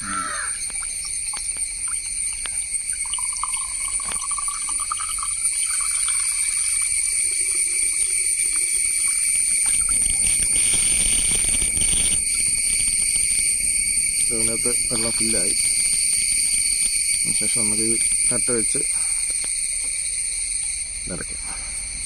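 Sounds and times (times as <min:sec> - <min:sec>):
water trickling into pump: 0:00.0 - 0:21.1.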